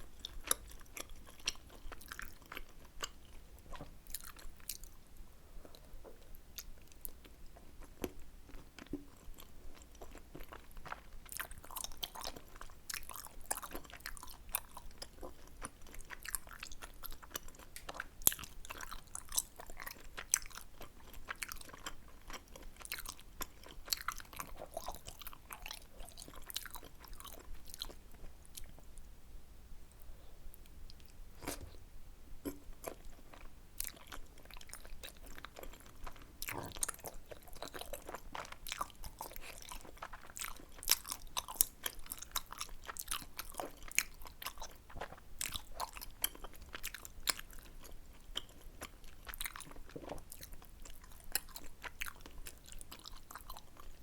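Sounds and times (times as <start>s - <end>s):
chewing and biting food: 0.0s - 5.0s, 6.6s - 28.8s, 32.4s - 54.0s.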